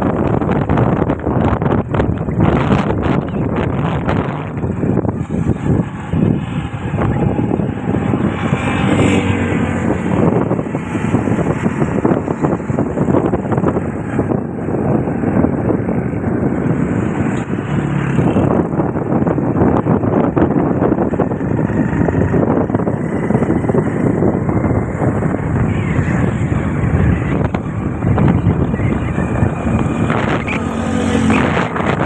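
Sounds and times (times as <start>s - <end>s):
vehicle engine and road noise: 0.0s - 32.0s
wind rushing over microphone: 0.0s - 32.0s.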